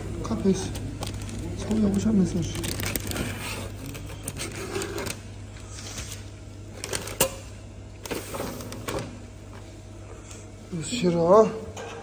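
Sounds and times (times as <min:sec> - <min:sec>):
kitchen machinery humming: 0:00.0 - 0:12.0.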